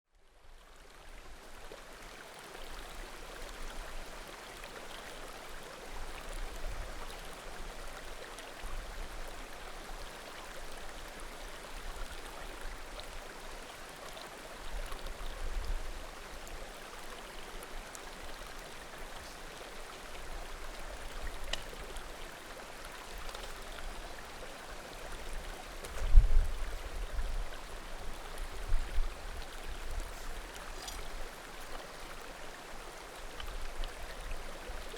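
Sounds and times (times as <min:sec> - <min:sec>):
mountain creek flowing: 0:00.2 - 0:34.9.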